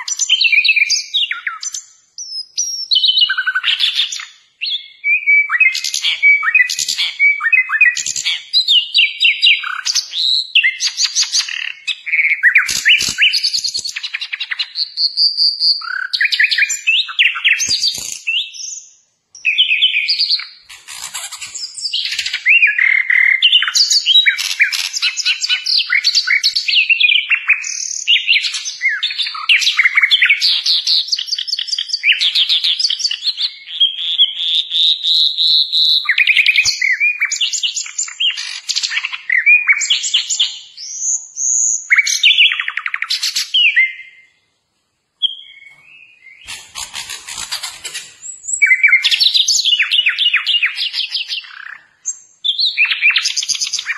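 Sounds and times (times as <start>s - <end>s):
songbird trilling and whistling: 0.0s - 44.4s, 45.2s - 53.9s.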